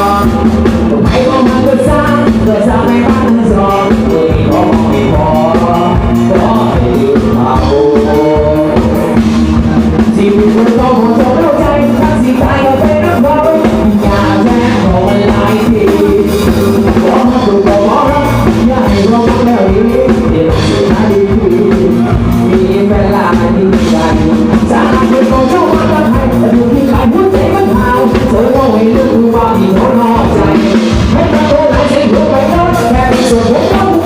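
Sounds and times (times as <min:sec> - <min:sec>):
band playing loud music: 0:00.0 - 0:34.0
drum kit beat: 0:00.0 - 0:34.0
person singing: 0:00.0 - 0:34.0.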